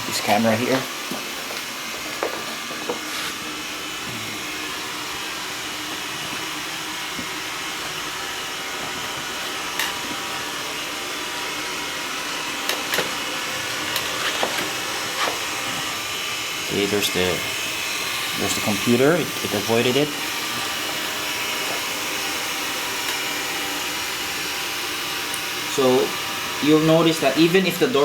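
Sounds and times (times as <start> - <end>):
robot vacuum whirring: 0.0 - 28.0.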